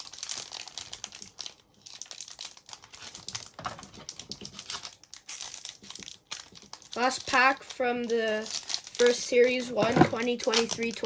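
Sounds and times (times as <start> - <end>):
foil wrappers crinkling: 0.0 - 11.0.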